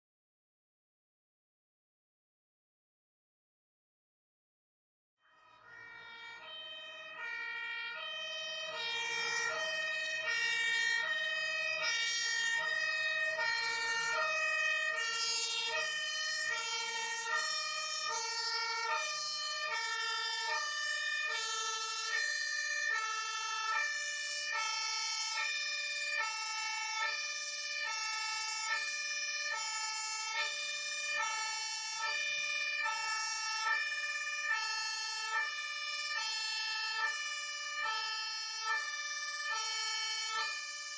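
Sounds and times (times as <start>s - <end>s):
two-tone emergency siren: 5.2s - 40.9s.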